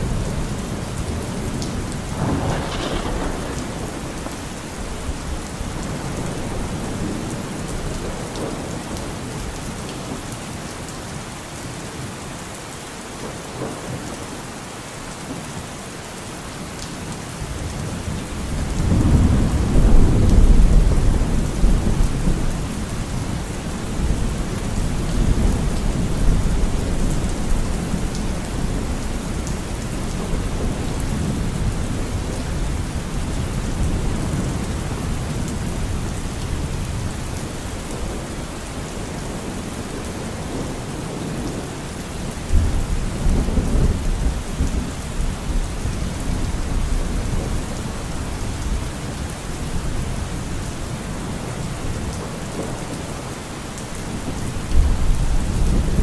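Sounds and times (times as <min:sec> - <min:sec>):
deep rumble of thunder: 0:00.0 - 0:10.2, 0:17.5 - 0:52.9, 0:54.1 - 0:56.0
steady rain falling: 0:00.0 - 0:56.0.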